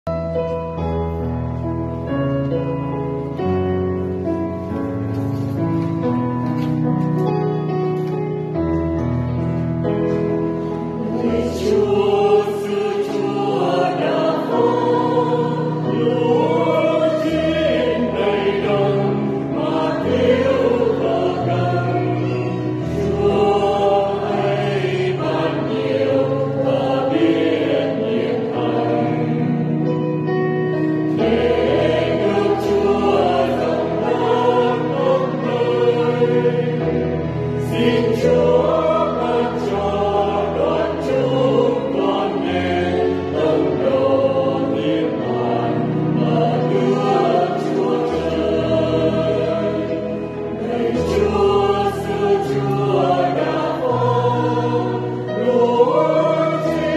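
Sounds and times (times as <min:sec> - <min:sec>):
choir singing a hymn: 0:00.1 - 0:56.9.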